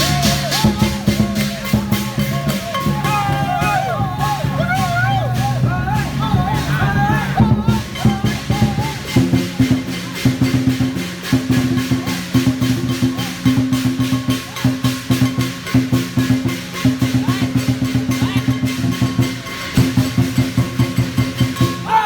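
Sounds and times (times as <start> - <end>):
cymbals clashing: 0.0 - 22.0
drum beating fast rhythm: 0.0 - 22.0.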